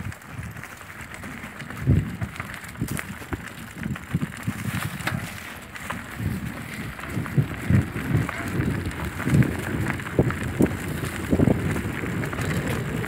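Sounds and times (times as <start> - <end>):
bike tyres on dirt trail: 0.0 - 13.0
bike thumping and clattering: 0.3 - 13.0.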